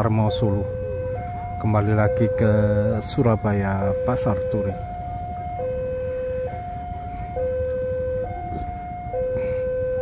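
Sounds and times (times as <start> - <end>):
level crossing two-tone alarm: 0.0 - 10.0.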